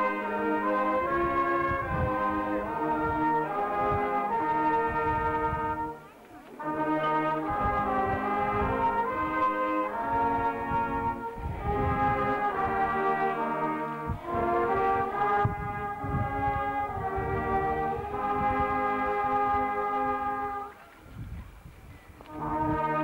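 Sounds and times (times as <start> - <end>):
brass band playing: 0.0 - 20.8, 22.2 - 23.0.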